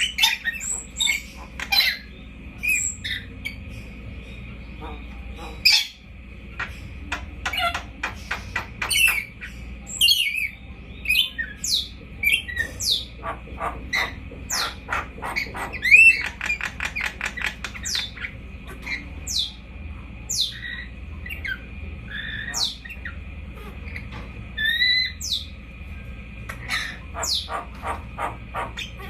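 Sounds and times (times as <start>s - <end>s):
parrot chirping and squawking: 0.0s - 19.7s, 20.3s - 25.6s, 26.4s - 29.0s.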